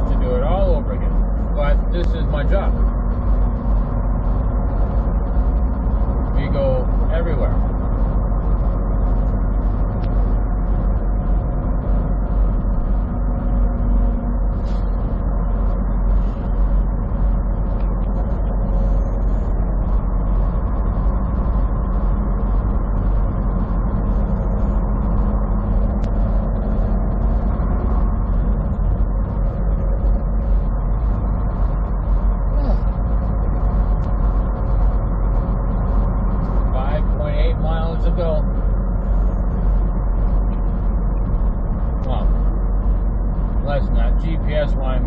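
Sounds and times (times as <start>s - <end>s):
road noise: 0.0s - 45.0s
truck diesel engine droning: 0.0s - 45.0s.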